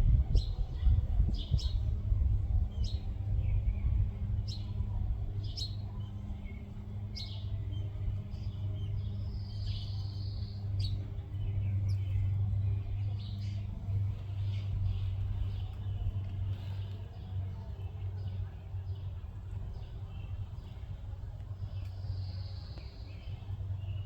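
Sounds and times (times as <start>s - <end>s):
steady low rumble: 0.0s - 24.0s
small birds chirping: 0.2s - 24.0s.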